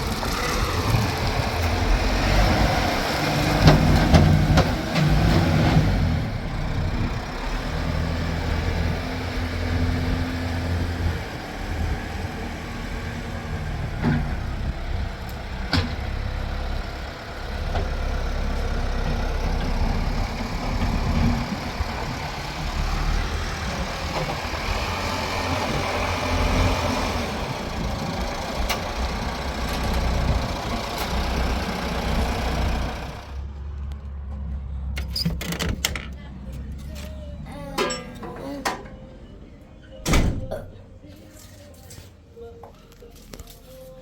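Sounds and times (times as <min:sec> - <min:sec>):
vehicle engine rumbling: 0:00.0 - 0:41.8.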